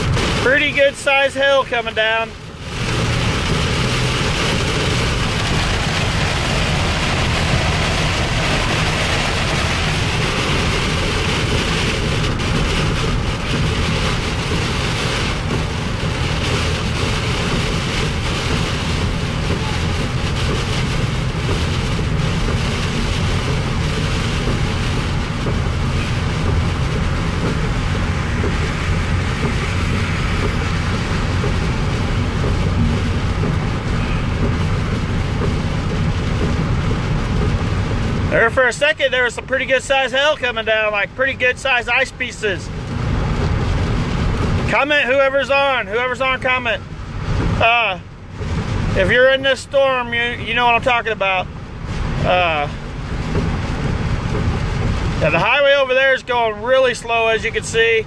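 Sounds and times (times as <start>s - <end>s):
rain and hail on car roof: 0.0s - 58.0s
tyre and road noise: 0.0s - 58.0s.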